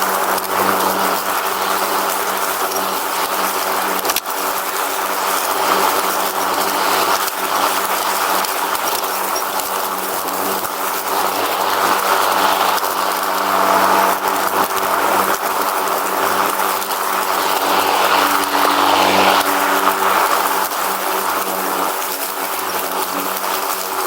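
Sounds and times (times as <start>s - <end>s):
riding lawn mower engine humming: 0.0s - 24.0s.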